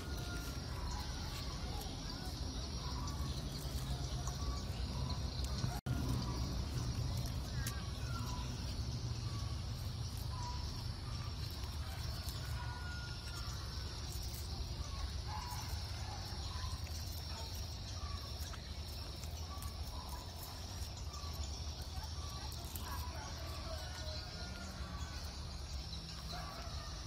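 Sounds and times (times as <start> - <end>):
bird chirps: 0.0 - 27.0
high insect drone: 0.0 - 27.0.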